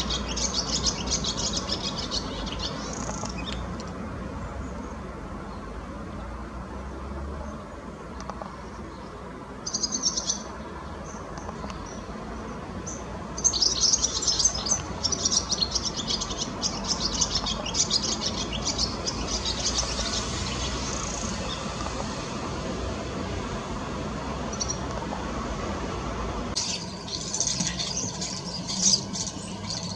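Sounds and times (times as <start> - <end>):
small birds chirping: 0.0 - 6.4, 7.4 - 22.7, 23.3 - 25.4, 26.5 - 29.9.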